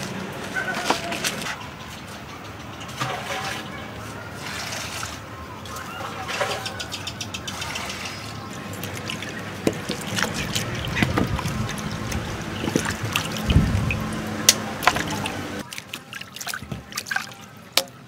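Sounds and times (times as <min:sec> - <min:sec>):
water splashing in a metal basin: 0:02.9 - 0:06.9, 0:07.5 - 0:18.0.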